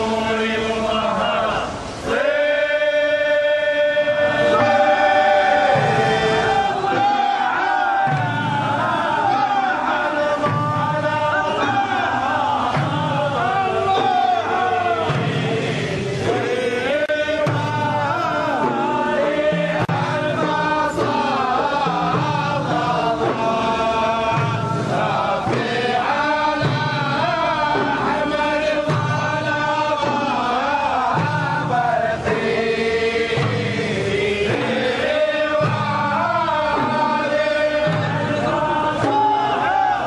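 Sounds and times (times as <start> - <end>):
men chanting a devotional song: 0.0 - 40.0
low drum beat: 4.0 - 40.0.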